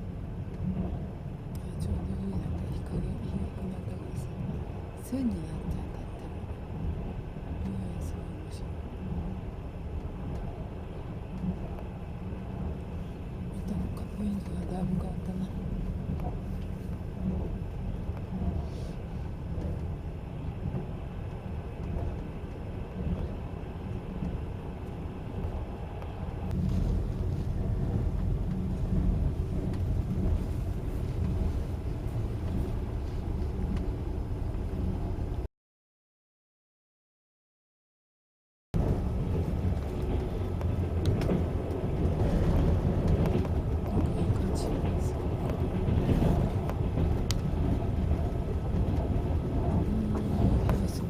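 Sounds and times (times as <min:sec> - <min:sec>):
train rumbling: 0:00.0 - 0:35.5, 0:38.8 - 0:51.0.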